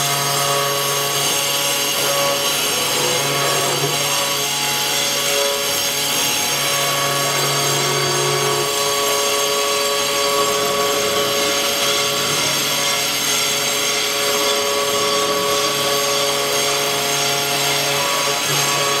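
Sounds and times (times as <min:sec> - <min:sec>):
router spindle whine: 0:00.0 - 0:19.0.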